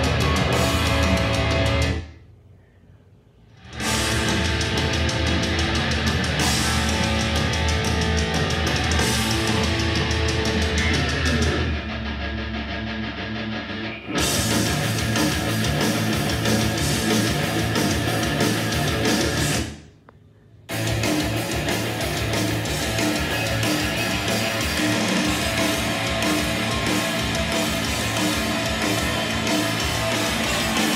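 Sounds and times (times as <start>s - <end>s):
heavy rock music from speaker: 0.0s - 2.2s, 3.6s - 19.8s, 20.7s - 30.9s.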